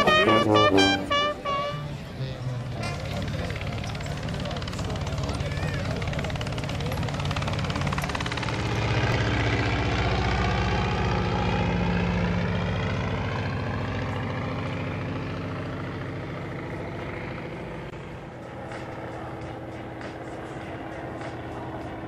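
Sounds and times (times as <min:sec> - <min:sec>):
aircraft piston engine and propeller: 0:00.0 - 0:22.0.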